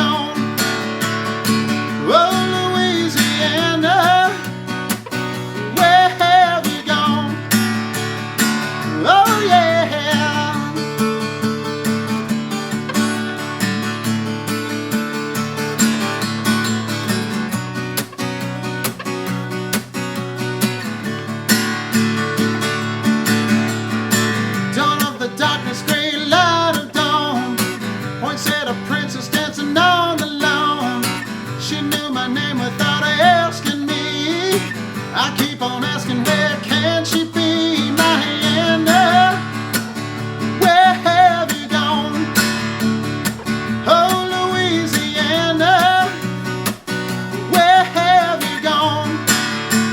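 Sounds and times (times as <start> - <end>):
acoustic guitar strumming: 0.0 - 49.9.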